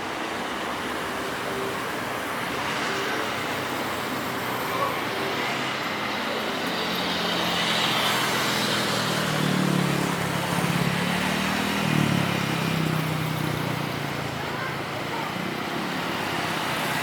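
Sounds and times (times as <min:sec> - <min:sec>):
broad rushing roar: 0:00.0 - 0:17.0.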